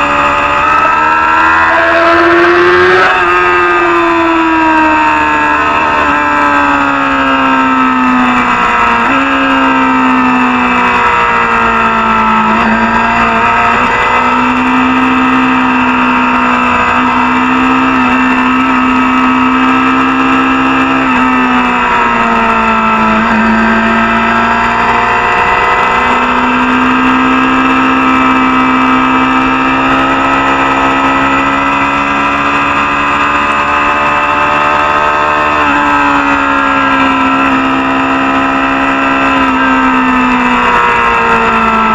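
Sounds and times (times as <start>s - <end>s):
racing motorcycle engine revving: 0.0s - 41.9s.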